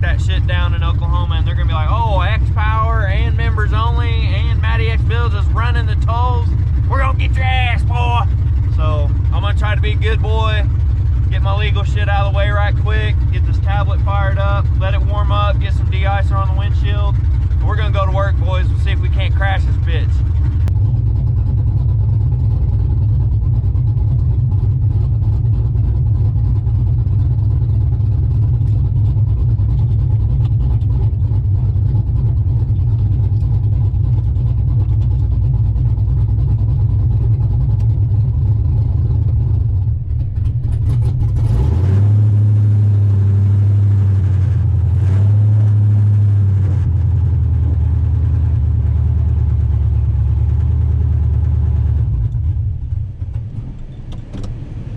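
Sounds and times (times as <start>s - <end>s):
truck engine idling and revving: 0.0s - 54.9s.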